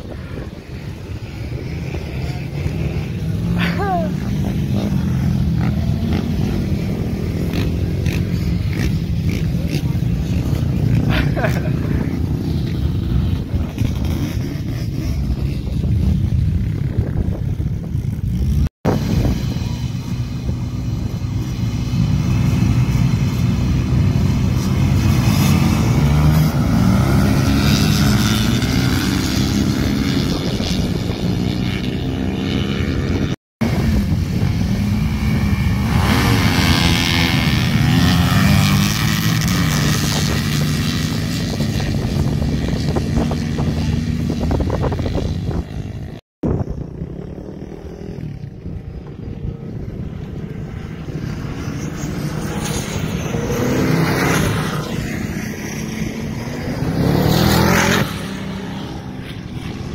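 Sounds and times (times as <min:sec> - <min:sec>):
quad and dirt bike engines revving: 0:00.0 - 0:59.9.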